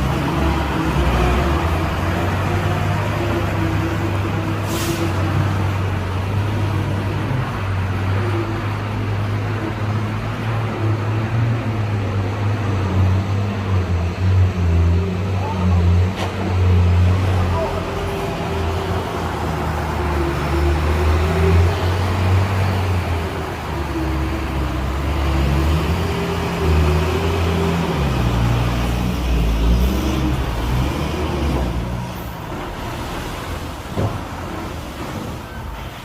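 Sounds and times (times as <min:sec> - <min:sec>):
diesel truck engine under load: 0:00.0 - 0:36.0.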